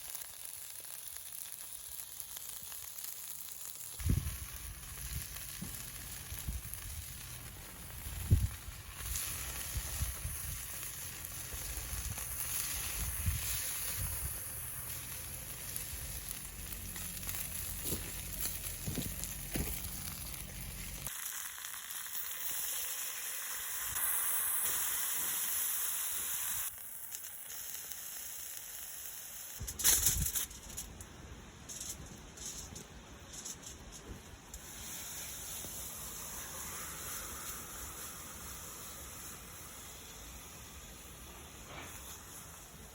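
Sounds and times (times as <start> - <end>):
steak sizzling in a frying pan: 0.0 - 29.6, 34.6 - 41.2.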